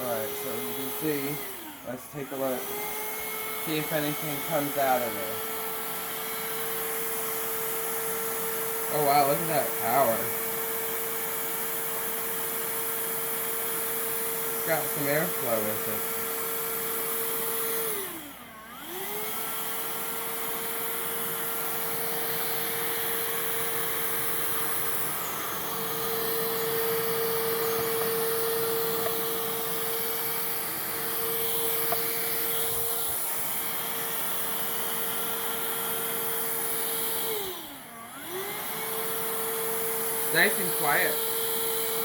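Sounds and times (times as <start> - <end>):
cordless vacuum running: 0.0 - 42.0.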